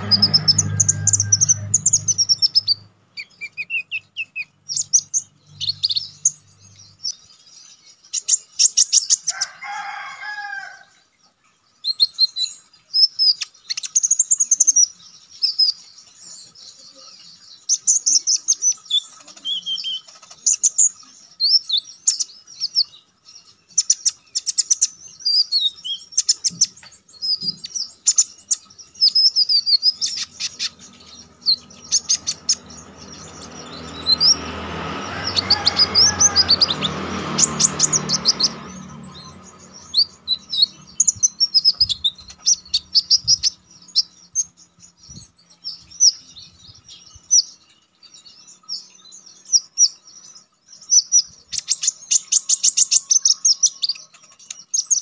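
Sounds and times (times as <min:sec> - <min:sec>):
bird singing high chirps and trills: 0:00.0 - 0:55.0.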